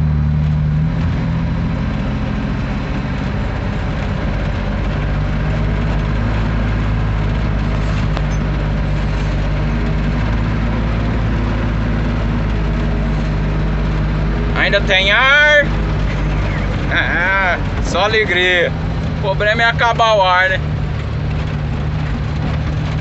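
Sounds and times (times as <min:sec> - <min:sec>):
diesel truck engine running: 0:00.0 - 0:23.0
rattling and road noise: 0:00.0 - 0:23.0.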